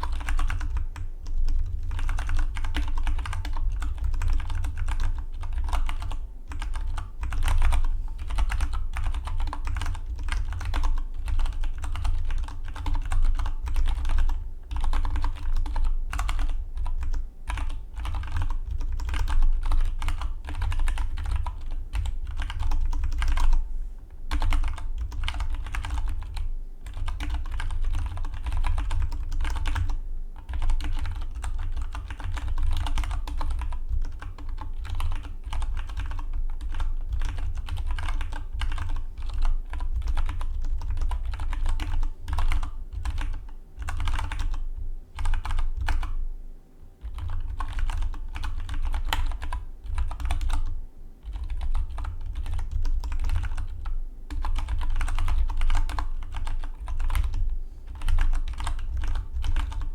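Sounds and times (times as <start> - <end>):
fast mechanical keyboard typing: 0.0 - 23.6, 24.3 - 46.2, 47.0 - 59.9.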